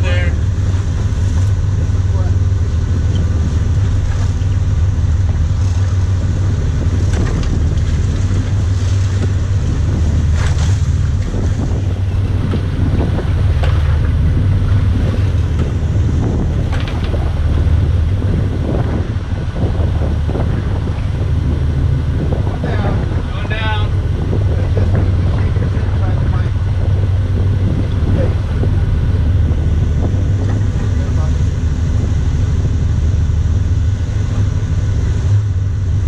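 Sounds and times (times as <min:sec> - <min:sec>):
boat engines droning: 0:00.0 - 0:36.0
water churning and splashing: 0:00.0 - 0:36.0
wind buffeting microphone: 0:00.0 - 0:36.0.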